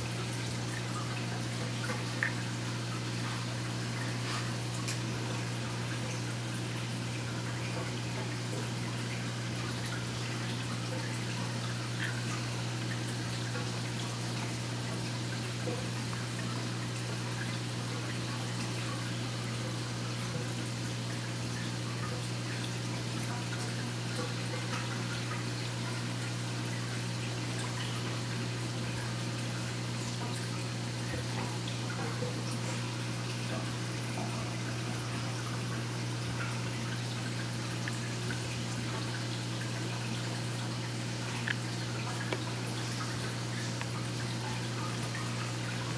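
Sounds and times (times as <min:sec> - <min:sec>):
low equipment hum: 0:00.0 - 0:45.9
water trickling and dripping: 0:00.0 - 0:45.9.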